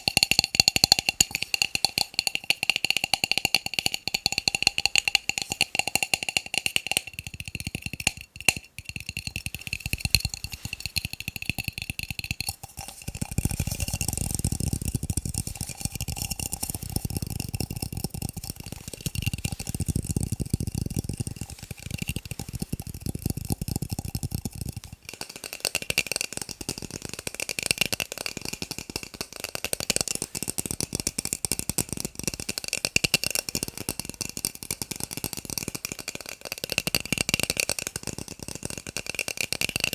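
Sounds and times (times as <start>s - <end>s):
fast tapping on plastic cups: 0.0s - 39.9s.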